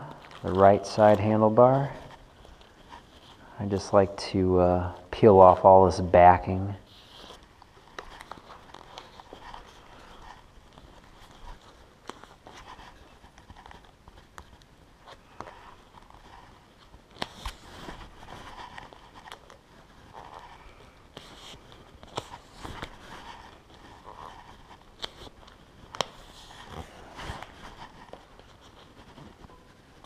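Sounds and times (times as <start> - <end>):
tape rustling and crinkling: 0.0 - 30.0.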